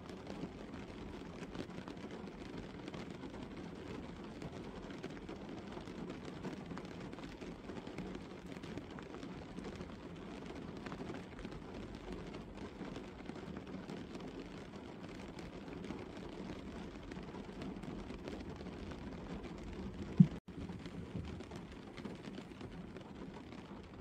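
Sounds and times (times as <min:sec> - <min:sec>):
rain on a car roof: 0:00.0 - 0:24.0.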